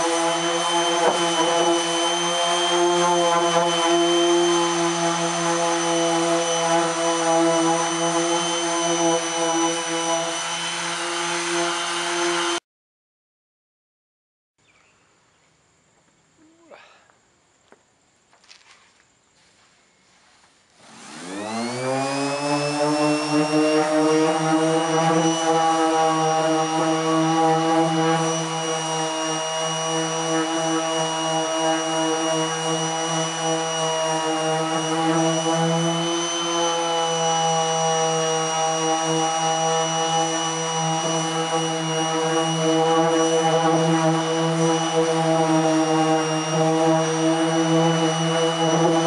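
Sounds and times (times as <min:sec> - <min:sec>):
orbital sander whining: 0:00.0 - 0:12.6, 0:20.3 - 0:49.0.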